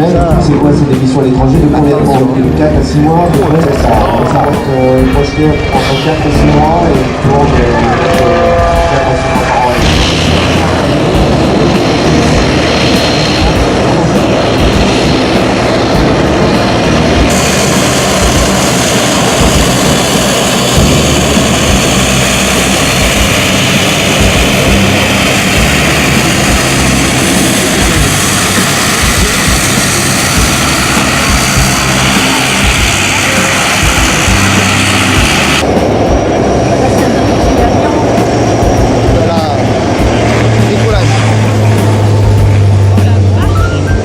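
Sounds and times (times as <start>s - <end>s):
aircraft engine noise: 0.0s - 44.0s.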